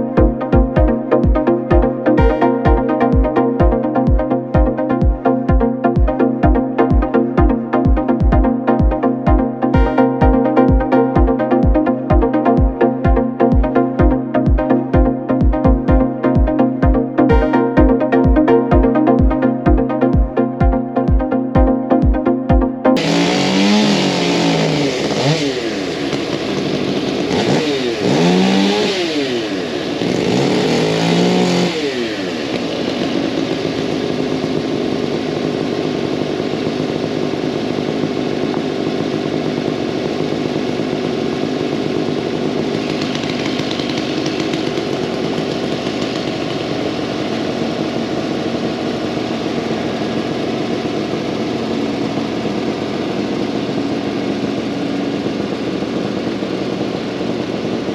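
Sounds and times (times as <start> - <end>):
engine revving: 0.0 - 57.9.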